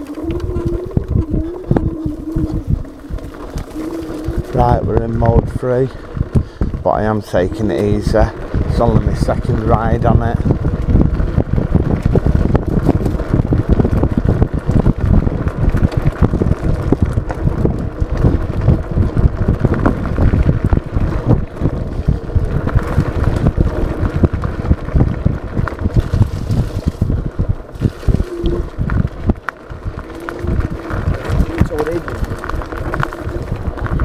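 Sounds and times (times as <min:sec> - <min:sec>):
electric scooter rumble: 0:00.0 - 0:34.0
wind buffeting microphone: 0:00.0 - 0:34.0.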